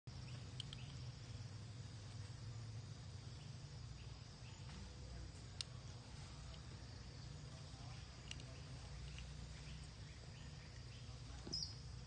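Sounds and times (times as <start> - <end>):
high insect buzz: 0.1 - 12.0
low steady rumble: 0.1 - 12.0.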